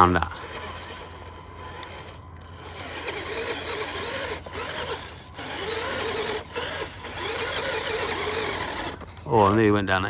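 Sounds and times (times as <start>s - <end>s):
toy truck electric motor whirring: 0.0s - 9.7s.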